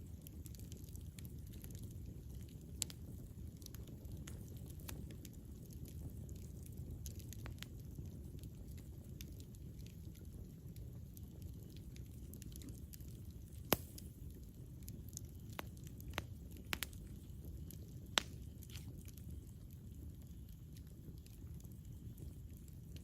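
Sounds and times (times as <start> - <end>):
rumble of fire flames: 0.0 - 23.0
wood crackling and popping: 0.0 - 23.0.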